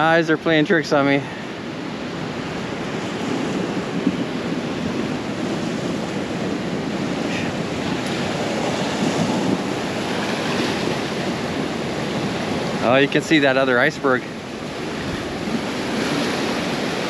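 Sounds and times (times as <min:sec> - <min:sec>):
surf breaking on rocks: 0:00.0 - 0:17.0.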